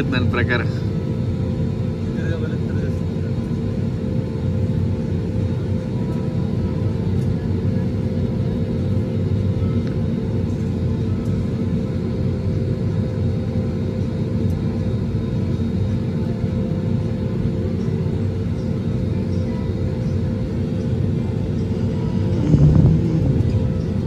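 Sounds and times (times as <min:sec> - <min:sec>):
low rumble of engines and cabin air: 0:00.0 - 0:24.0.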